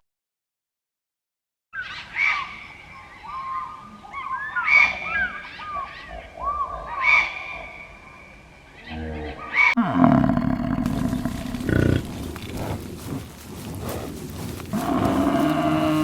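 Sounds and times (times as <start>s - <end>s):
birds chirping: 1.8s - 16.0s.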